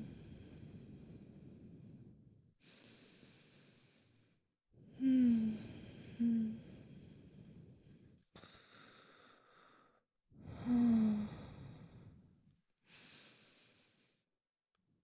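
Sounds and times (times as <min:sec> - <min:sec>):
woman breathing slowly: 0:00.0 - 0:14.3.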